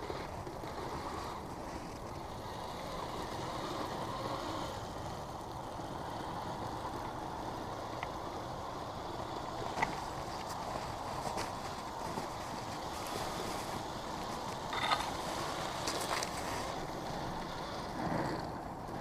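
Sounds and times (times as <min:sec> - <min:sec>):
toy snowcat rushing over snow: 0:00.0 - 0:19.0.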